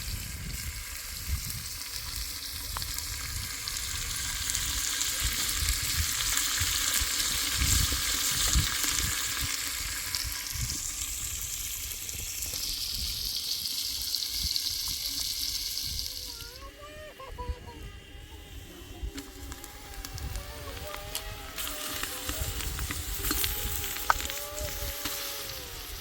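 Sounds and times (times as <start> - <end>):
crackling hiss: 0.0 - 26.0.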